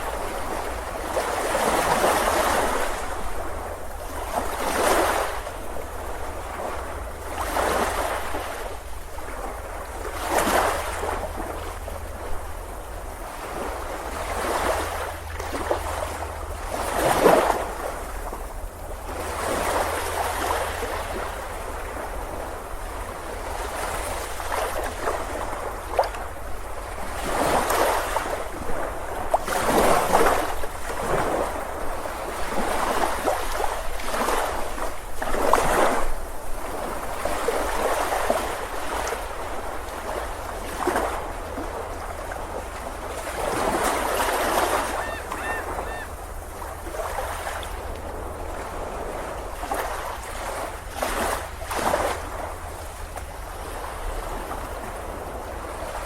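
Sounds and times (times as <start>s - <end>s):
ocean surf on beach: 0.0s - 56.0s.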